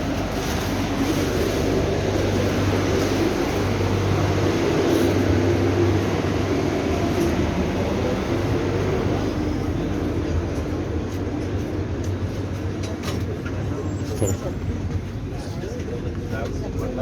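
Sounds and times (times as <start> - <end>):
train running inside carriage: 0.0 - 17.0.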